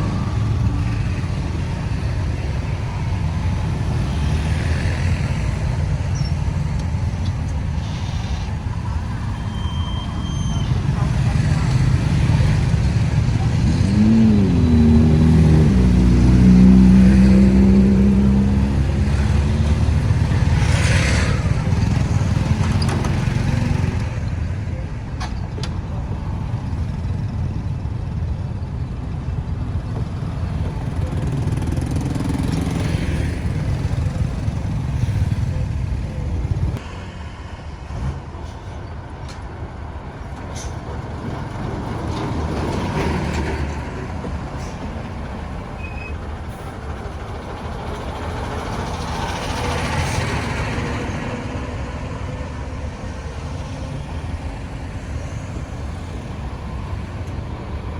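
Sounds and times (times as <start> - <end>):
traffic noise: 0.0 - 57.9
vehicles passing: 0.0 - 57.9.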